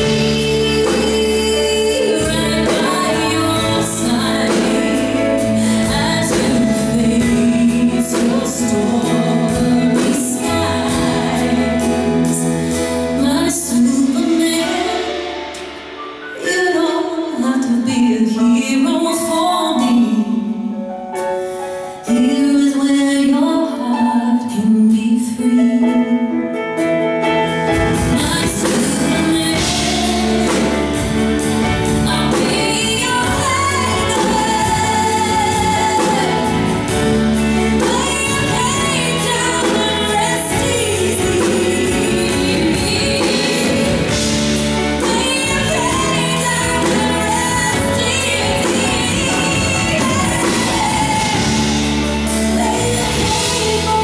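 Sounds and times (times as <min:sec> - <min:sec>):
woman singing: 0:00.0 - 0:15.7, 0:16.3 - 0:20.9, 0:22.0 - 0:26.6, 0:27.8 - 0:54.0
band playing: 0:00.0 - 0:23.2, 0:24.5 - 0:54.0.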